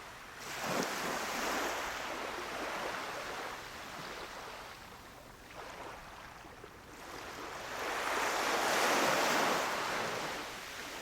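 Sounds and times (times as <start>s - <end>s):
ocean waves washing onto beach: 0.0s - 11.0s.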